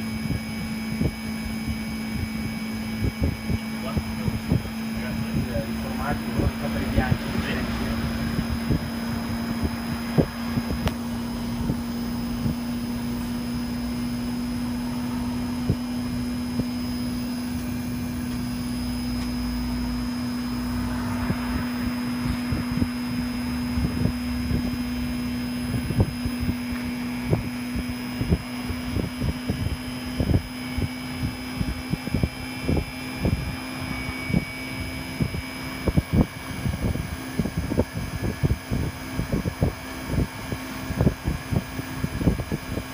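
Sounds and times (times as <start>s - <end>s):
air conditioning unit humming: 0.0s - 42.9s.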